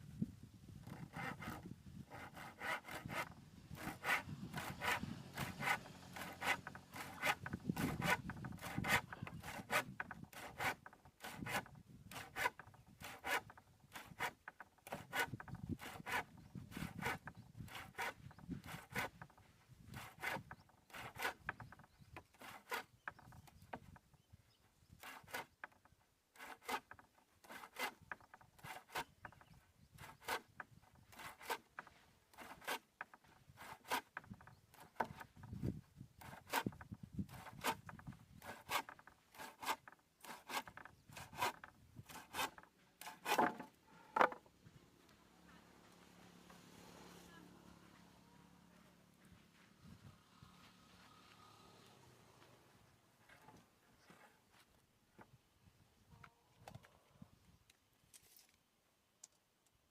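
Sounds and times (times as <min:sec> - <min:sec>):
hand tool strokes on wood: 0:00.8 - 0:23.9, 0:25.0 - 0:54.8.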